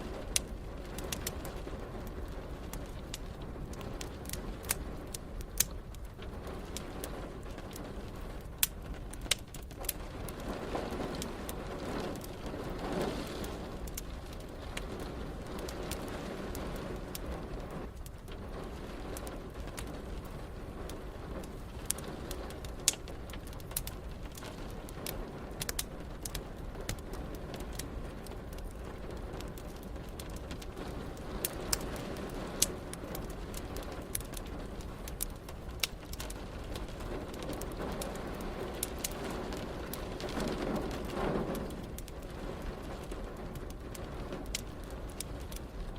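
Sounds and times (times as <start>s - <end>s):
rain: 0.0s - 45.9s
wood fire crackling: 0.0s - 45.9s.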